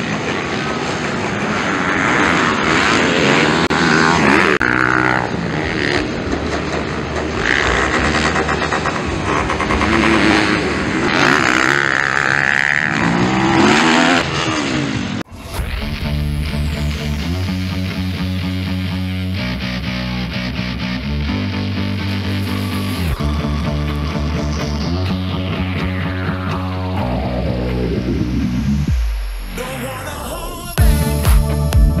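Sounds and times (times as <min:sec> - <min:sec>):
motocross bike engines revving: 0:00.0 - 0:28.9.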